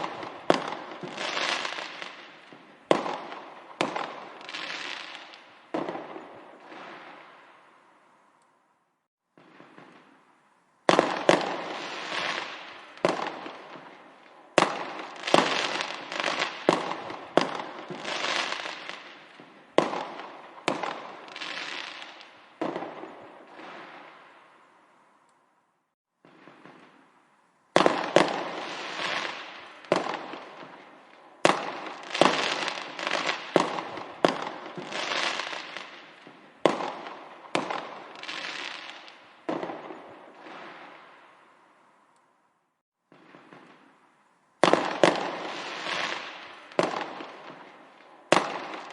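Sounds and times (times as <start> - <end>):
fireworks bangs: 0.0 - 7.7, 9.3 - 10.2, 10.9 - 24.6, 26.2 - 27.1, 27.8 - 41.4, 43.1 - 44.0, 44.6 - 48.9.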